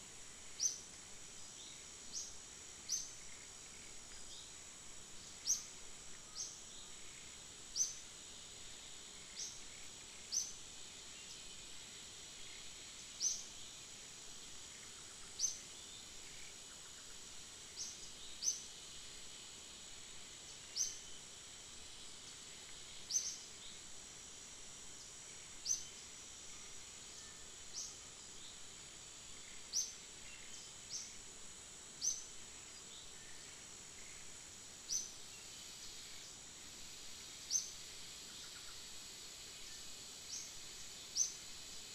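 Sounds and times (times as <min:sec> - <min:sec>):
high-pitched insect drone: 0:00.0 - 0:41.9.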